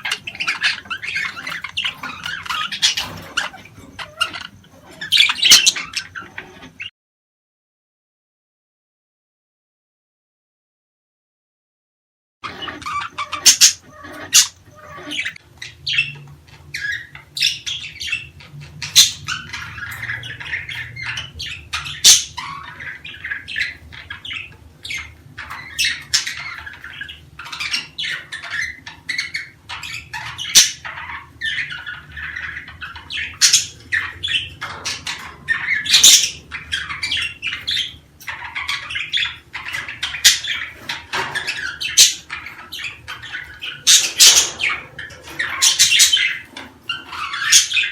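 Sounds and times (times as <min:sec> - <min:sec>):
budgerigar squawks: 0:00.0 - 0:06.9, 0:12.4 - 0:47.9
budgerigars warbling twitter: 0:00.0 - 0:06.9, 0:12.4 - 0:47.9.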